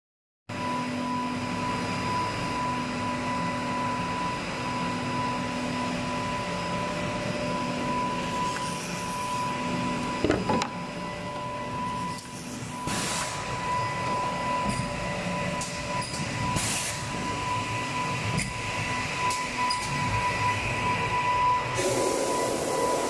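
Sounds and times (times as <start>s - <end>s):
machine hum with high whine: 0.5s - 23.0s.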